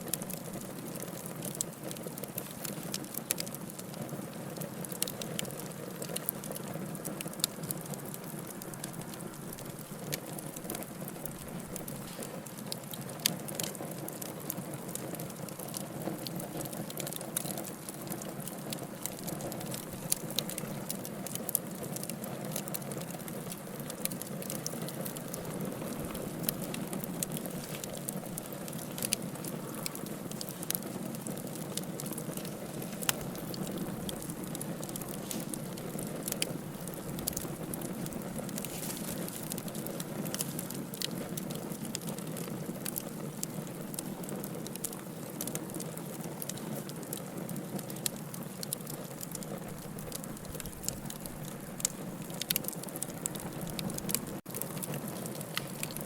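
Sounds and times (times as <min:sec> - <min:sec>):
fire crackling and popping: 0:00.0 - 0:56.0
fire flames rushing: 0:04.9 - 0:56.0.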